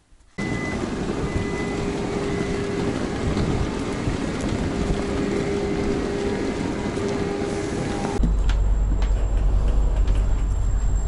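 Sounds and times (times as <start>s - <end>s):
train rumbling inside carriage: 0.2s - 11.0s.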